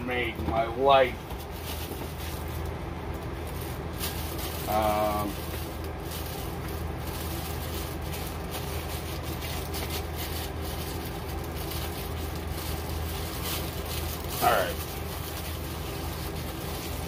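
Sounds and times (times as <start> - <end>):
low machine hum: 0.0 - 17.0
plastic wrapping rustling: 1.0 - 17.0.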